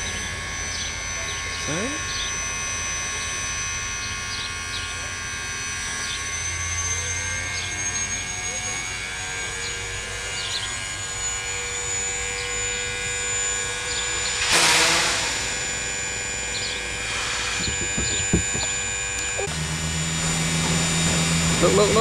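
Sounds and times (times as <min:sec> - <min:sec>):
steam locomotive drone: 0:00.0 - 0:22.0.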